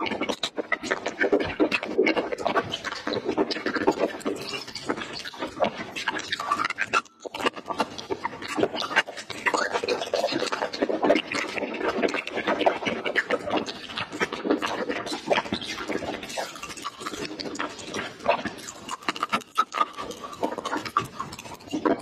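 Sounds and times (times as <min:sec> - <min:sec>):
chewing and sucking candy: 0:00.0 - 0:22.0
mouth clicks and smacks: 0:00.0 - 0:22.0.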